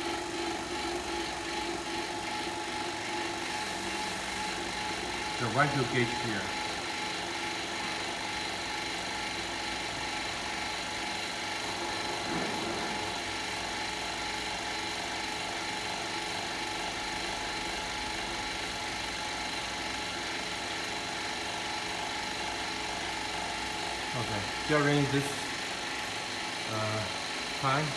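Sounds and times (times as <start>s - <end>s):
vacuum pump humming and hissing: 0.0s - 27.9s.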